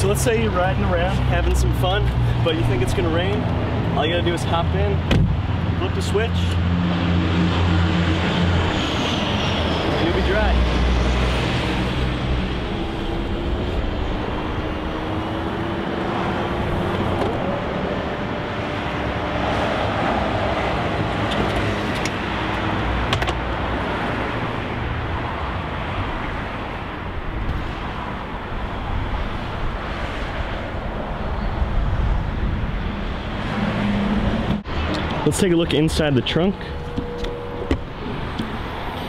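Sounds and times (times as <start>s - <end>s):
car and street noise: 0.0s - 39.0s.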